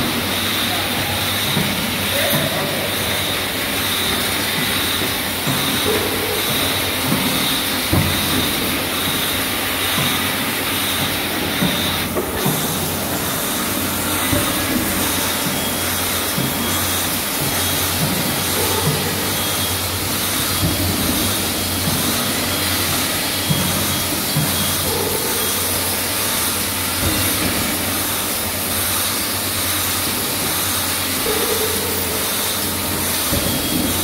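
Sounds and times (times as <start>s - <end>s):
machinery hum and hiss: 0.0s - 34.0s.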